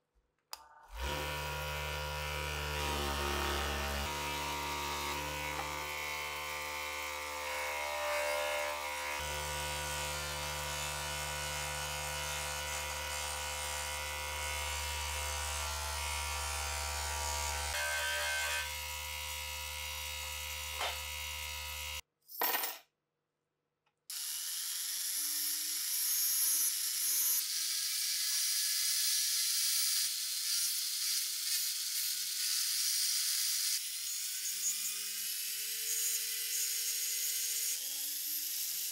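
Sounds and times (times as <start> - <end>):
rotary tool grinding steel: 0.9 - 22.0, 24.1 - 38.9.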